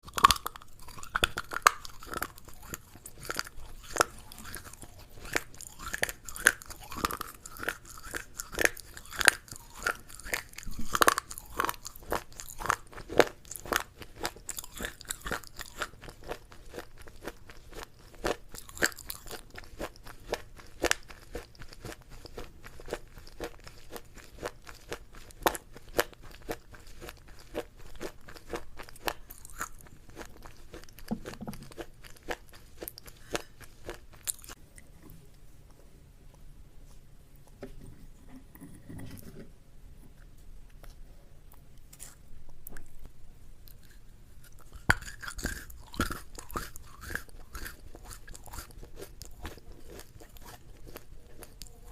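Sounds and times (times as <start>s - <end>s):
chewing crisp food: 0.0s - 35.0s, 40.7s - 51.9s.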